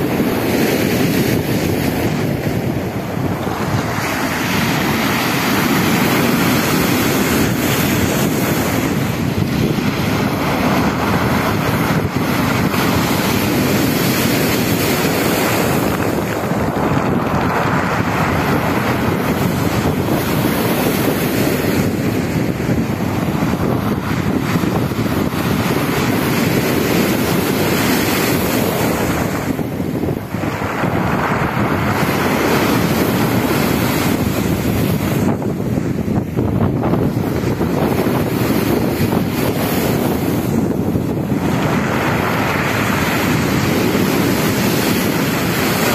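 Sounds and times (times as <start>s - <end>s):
surf breaking on pebble beach: 0.0s - 45.9s
wind buffeting microphone: 0.0s - 45.9s.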